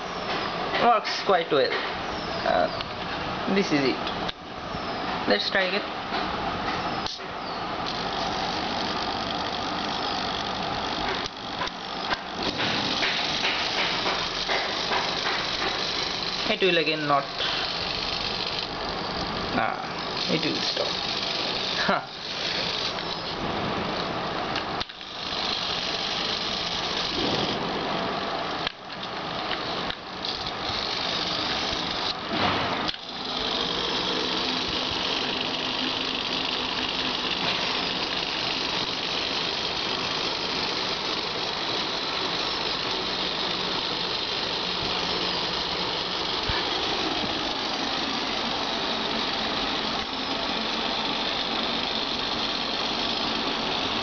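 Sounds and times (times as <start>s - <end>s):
servo motors whirring: 6.6s - 54.0s.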